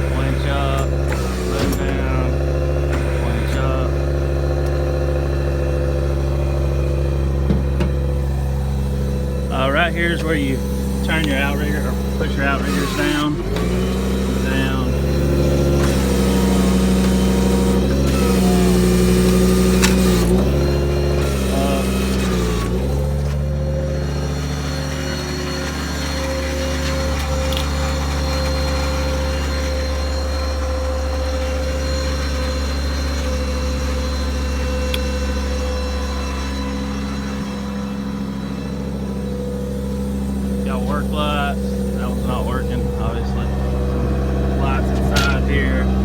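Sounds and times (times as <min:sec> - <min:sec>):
hydraulic whine: 0:00.0 - 0:46.0
truck engine running: 0:00.0 - 0:46.0.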